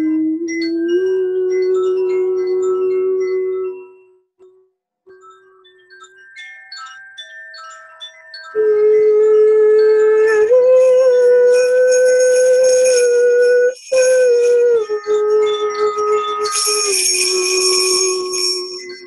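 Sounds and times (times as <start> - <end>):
small bells jingling: 1.4 - 4.2, 5.1 - 19.0.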